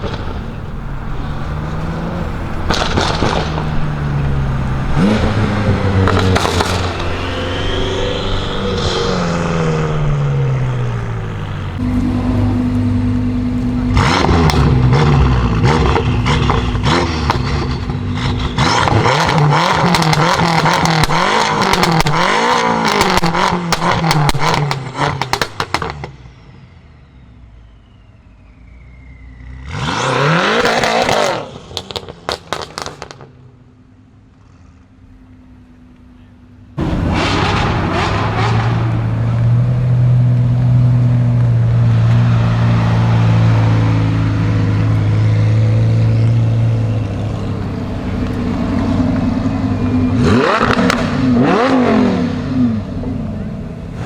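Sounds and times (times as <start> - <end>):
car engine revving: 0.0 - 26.2, 28.7 - 33.4, 36.8 - 54.0
exhaust crackles and pops: 0.0 - 26.2, 30.6 - 33.5, 36.8 - 52.5.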